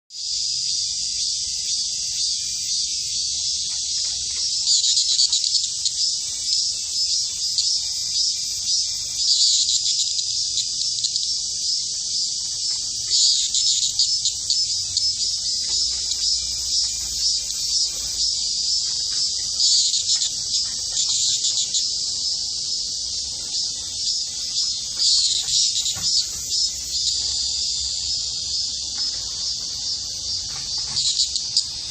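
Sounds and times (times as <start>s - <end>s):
cicada buzzing: 0.1s - 31.9s.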